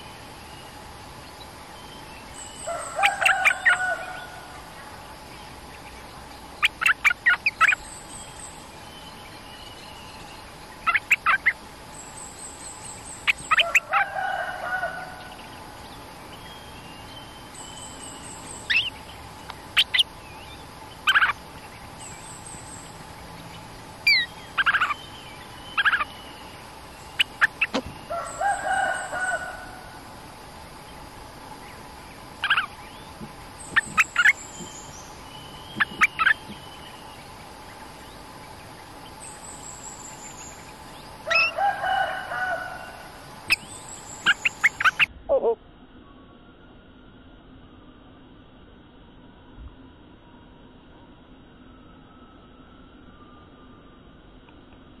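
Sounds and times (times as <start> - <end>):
bulbuls calling: 0.0 - 45.6.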